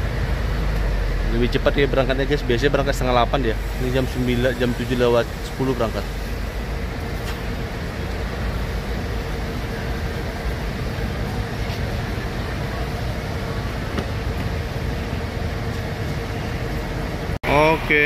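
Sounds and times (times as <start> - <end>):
diesel engine rumble: 0.0 - 18.0
mid-pitched engine hum: 0.0 - 18.0.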